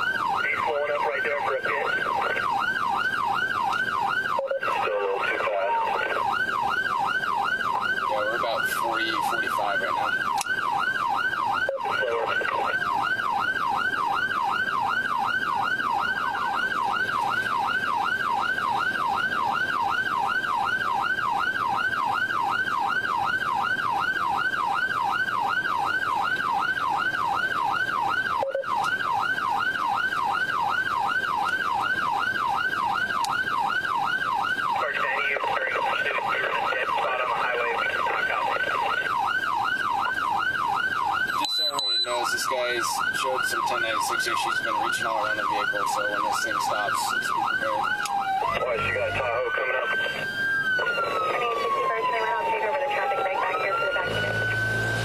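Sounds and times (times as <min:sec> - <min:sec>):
police siren wailing: 0:00.0 - 0:55.0.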